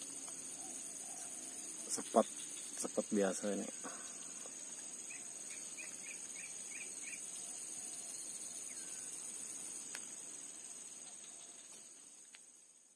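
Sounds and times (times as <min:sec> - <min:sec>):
bird chirping: 0:00.0 - 0:09.6, 0:11.0 - 0:12.0
insects chirping chorus: 0:00.0 - 0:12.9.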